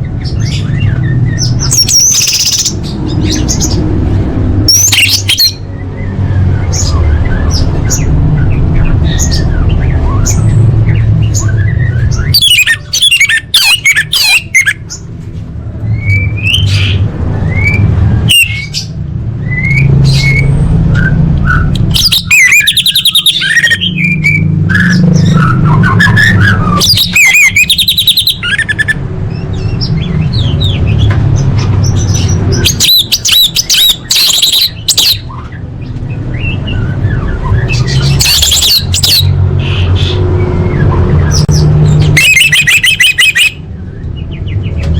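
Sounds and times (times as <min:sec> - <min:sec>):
bird chirping and trilling: 0:00.0 - 0:44.9.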